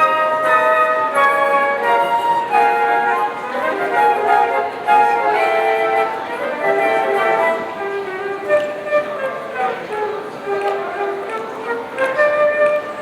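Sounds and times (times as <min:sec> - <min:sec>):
instrumental holiday music: 0:00.0 - 0:13.0.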